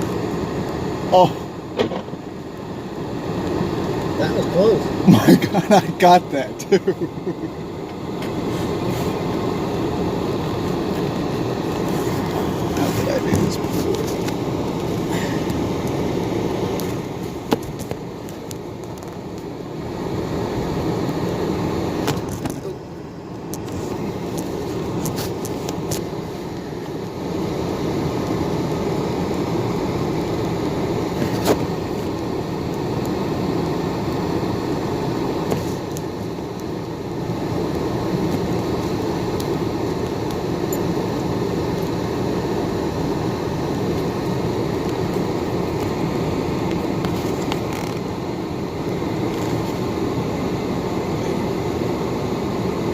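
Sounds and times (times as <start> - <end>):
road and engine noise in car: 0.0 - 52.9.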